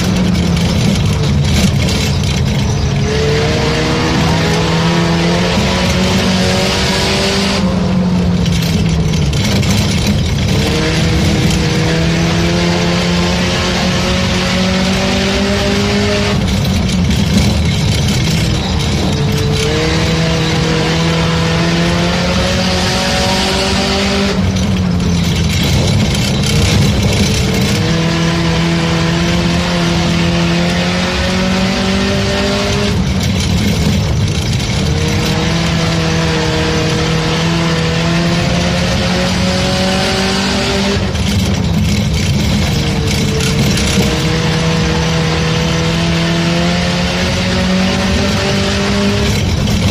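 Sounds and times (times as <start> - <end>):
race car engine: 0.0 - 49.9
tyre and wind noise: 0.0 - 49.9.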